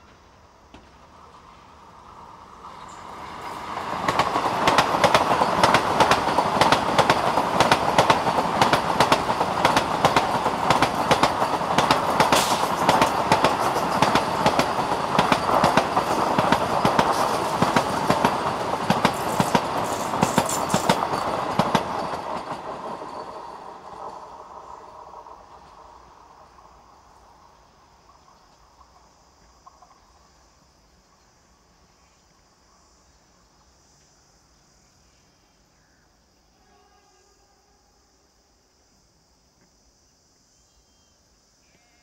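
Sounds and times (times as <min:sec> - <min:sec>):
train passing at high speed: 0:00.0 - 0:34.5.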